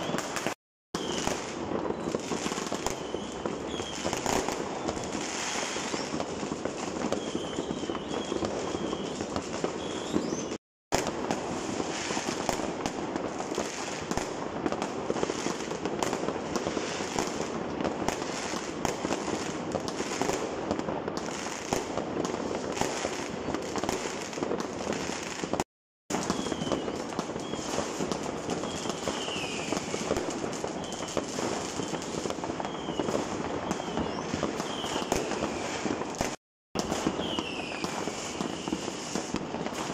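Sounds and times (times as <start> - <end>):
fireworks crackling and banging: 0.0 - 39.9
high firework whistles: 0.0 - 39.9.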